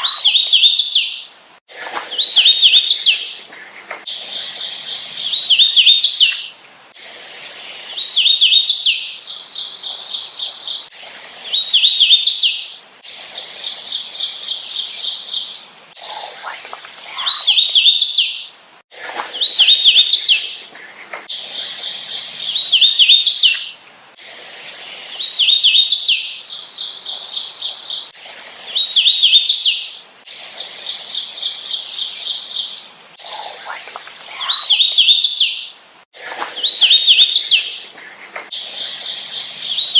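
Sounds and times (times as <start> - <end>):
warbler singing whistled notes: 0.0 - 1.4, 2.1 - 3.4, 4.1 - 6.6, 7.7 - 12.8, 13.4 - 16.5, 17.1 - 18.6, 19.3 - 20.6, 21.3 - 23.8, 24.8 - 30.0, 30.8 - 35.8, 36.5 - 39.9.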